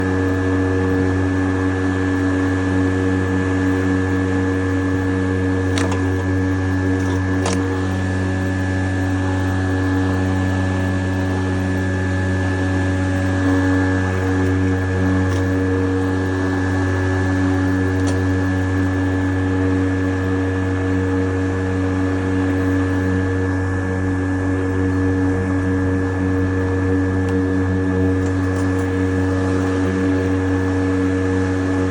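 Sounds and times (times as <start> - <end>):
electric lawnmower running: 0.0 - 31.9.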